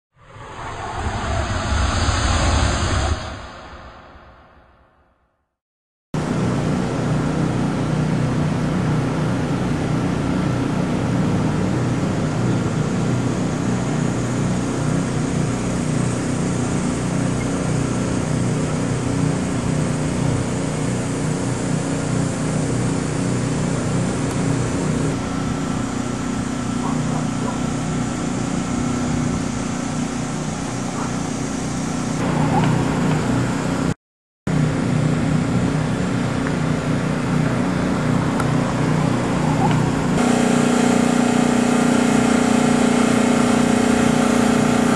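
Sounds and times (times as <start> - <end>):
engine running steadily: 6.2 - 44.9.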